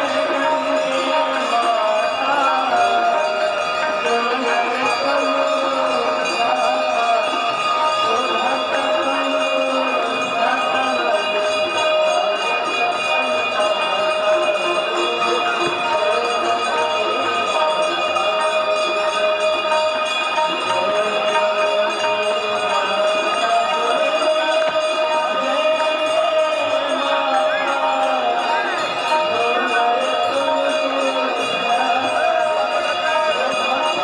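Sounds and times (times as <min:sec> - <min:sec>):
bells ringing: 0:00.0 - 0:34.0
devotional music: 0:00.0 - 0:34.0.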